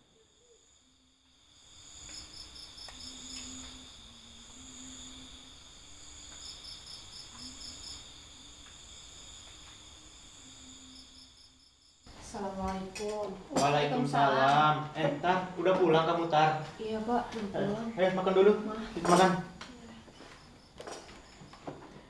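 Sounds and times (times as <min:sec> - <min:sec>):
crickets trilling and chirping: 0:00.0 - 0:22.0.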